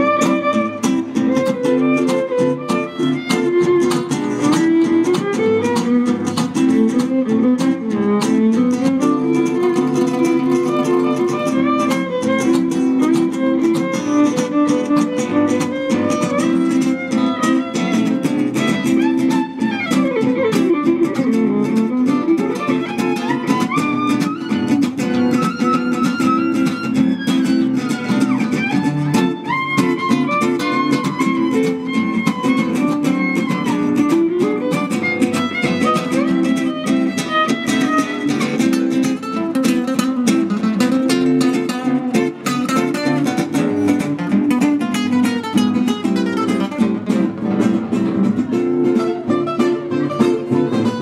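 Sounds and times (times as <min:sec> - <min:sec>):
classical guitars playing: 0:00.0 - 0:51.0.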